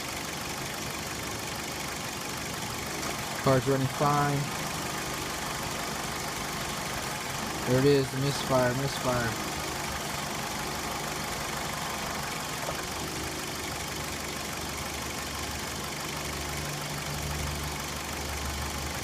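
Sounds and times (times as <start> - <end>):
car engine idling with misfire: 0.0 - 19.0.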